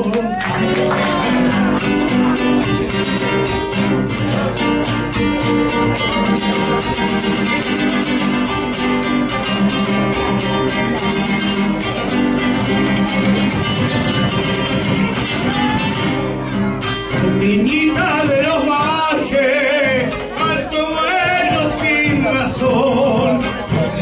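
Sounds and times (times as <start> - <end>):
acoustic guitars strummed: 0.0 - 24.0.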